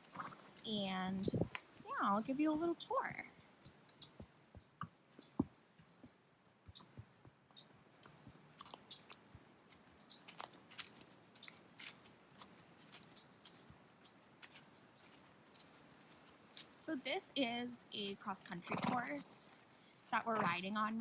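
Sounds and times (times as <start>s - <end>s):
horse hooves clicking and knocking: 3.4s - 21.0s.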